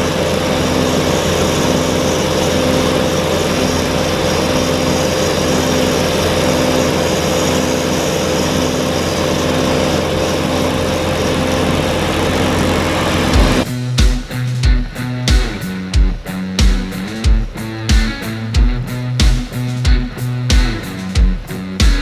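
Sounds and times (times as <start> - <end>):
snowblower pulsing: 0.0 - 22.0
tractor diesel engine running: 0.0 - 22.0.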